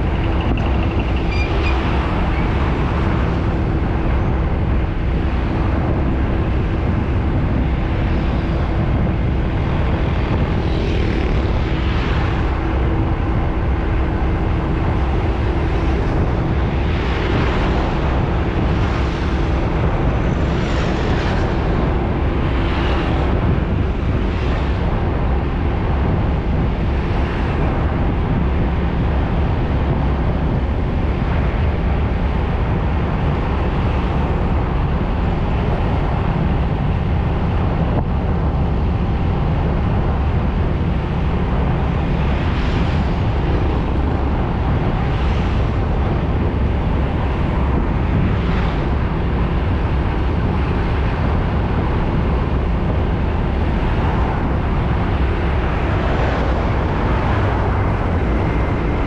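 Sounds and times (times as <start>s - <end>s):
vehicles passing: 0.0s - 29.9s, 30.5s - 59.0s
deep traffic rumble: 0.0s - 59.0s
steady hum: 0.0s - 59.0s.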